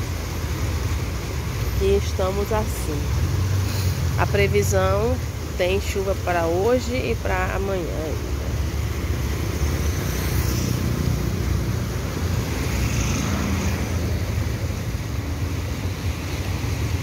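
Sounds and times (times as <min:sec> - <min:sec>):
fast-flowing river rushing: 0:00.0 - 0:17.0
road traffic rumble: 0:00.0 - 0:17.0.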